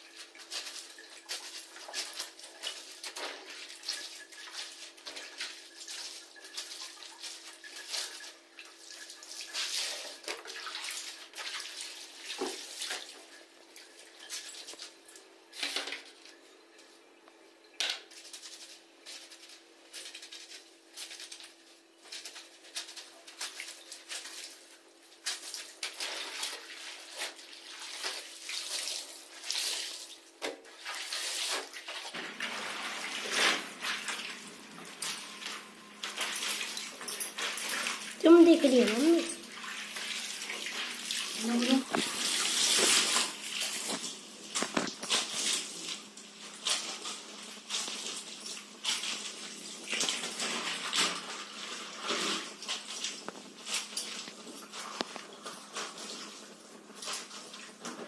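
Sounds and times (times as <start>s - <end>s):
water splashing in tub: 0.0s - 15.0s, 22.5s - 58.0s.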